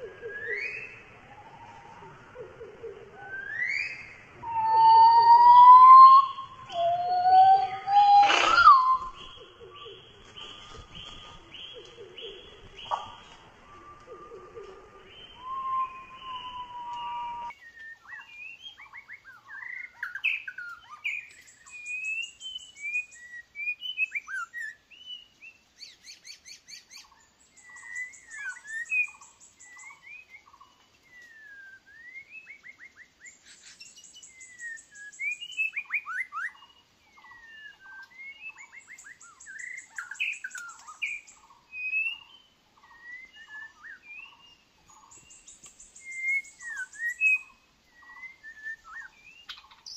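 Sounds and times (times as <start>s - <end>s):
bird singing whistled phrases: 0.3s - 1.9s, 3.2s - 10.0s, 15.0s - 27.0s, 27.6s - 30.5s, 31.1s - 49.9s.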